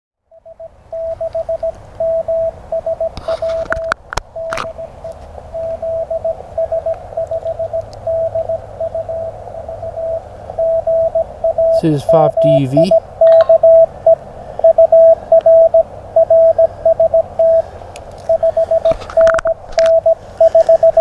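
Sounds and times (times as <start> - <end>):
morse code tone: 0.3 - 21.0.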